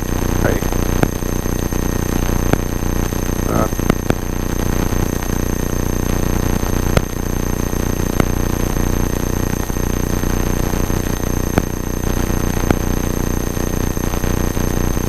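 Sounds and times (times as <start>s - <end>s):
electrical interference whine: 0.0s - 15.0s
sharp interference clicks: 0.0s - 15.0s.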